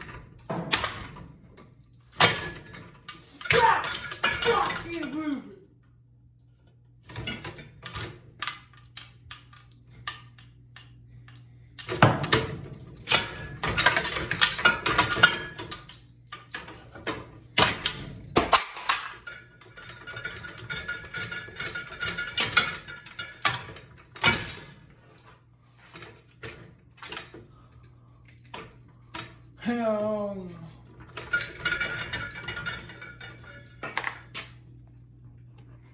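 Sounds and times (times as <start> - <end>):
fan parts clattering and clinking: 0.0 - 5.9, 6.6 - 35.9.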